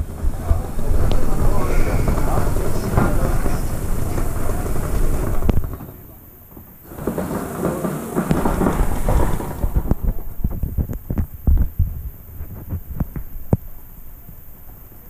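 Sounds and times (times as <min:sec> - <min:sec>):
handling noise on microphone: 0:00.0 - 0:14.7.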